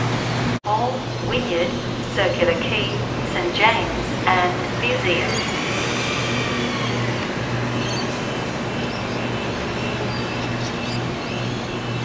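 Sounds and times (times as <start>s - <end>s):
electric drive whine: 0.0s - 12.0s.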